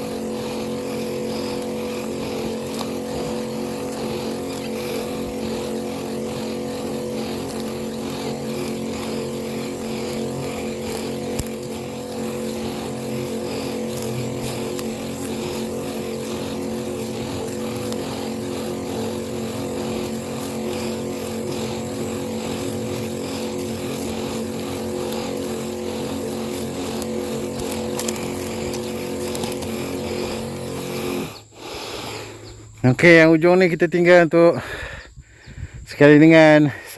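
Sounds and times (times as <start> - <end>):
small sprayer engine running: 0.0 - 36.9.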